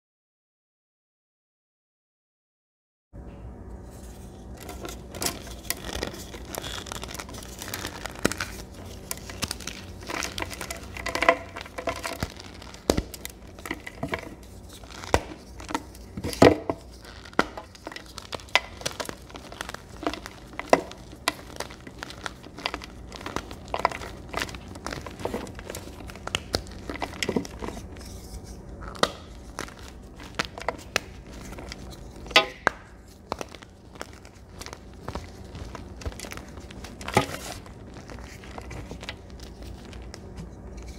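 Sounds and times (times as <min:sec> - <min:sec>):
chalk crumbling by hand: 0:03.9 - 0:40.9
chalk pieces cracking: 0:04.5 - 0:40.9.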